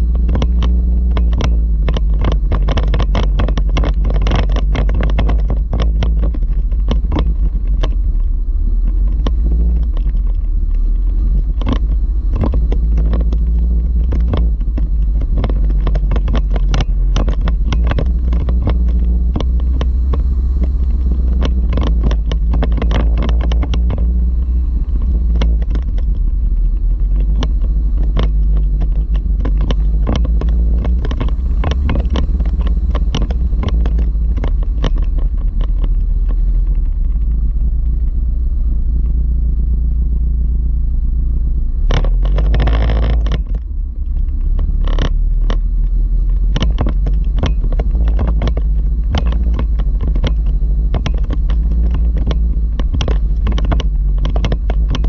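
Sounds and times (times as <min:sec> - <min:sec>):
knocks and rattles over stones: 0:00.0 - 0:38.3, 0:41.8 - 0:55.0
vehicle low rumble: 0:00.0 - 0:55.0.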